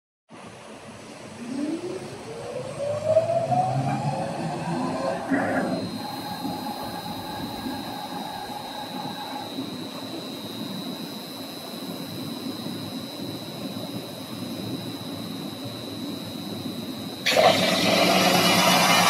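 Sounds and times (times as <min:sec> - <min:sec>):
low machine tone: 0:01.2 - 0:19.0
metal spinning machine whine: 0:01.4 - 0:19.0.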